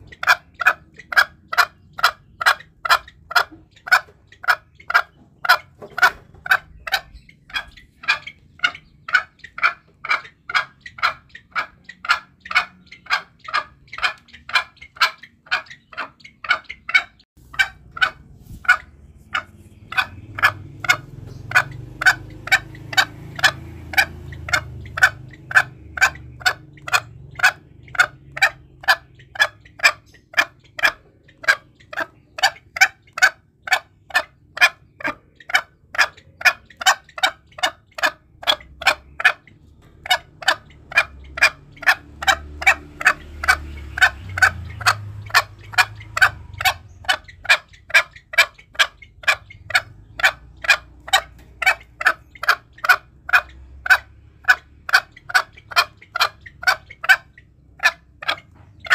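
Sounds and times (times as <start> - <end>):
junglefowl clucking: 0.0 - 58.9
low background rumble: 0.0 - 58.9.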